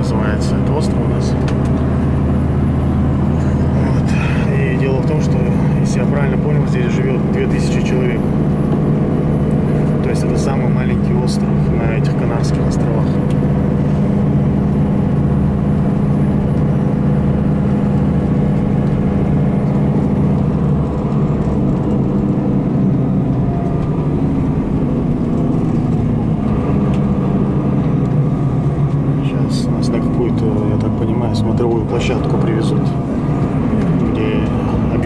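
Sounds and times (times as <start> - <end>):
coach engine running: 0.0 - 35.0
road noise: 0.0 - 35.0.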